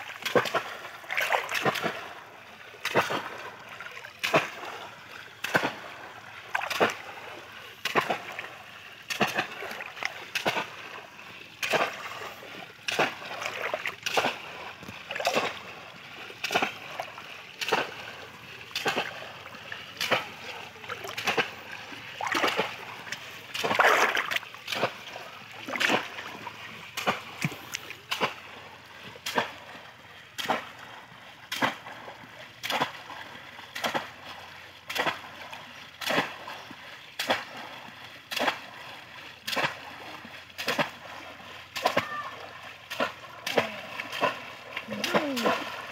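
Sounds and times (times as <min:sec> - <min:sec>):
baskets splashing into water: 0:00.0 - 0:02.2, 0:02.8 - 0:28.6, 0:29.2 - 0:29.7, 0:30.4 - 0:30.8, 0:31.5 - 0:32.0, 0:32.6 - 0:36.6, 0:37.2 - 0:45.9.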